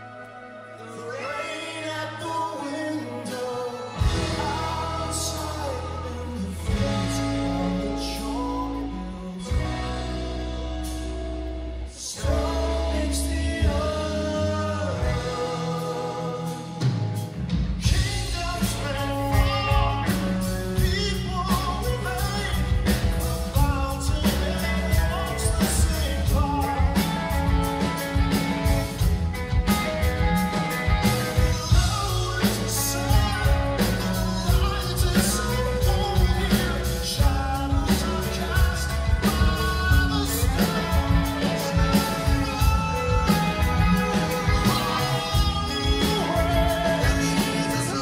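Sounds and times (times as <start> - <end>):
male lead vocal: 0.0 - 48.0
rock band playing: 0.0 - 48.0.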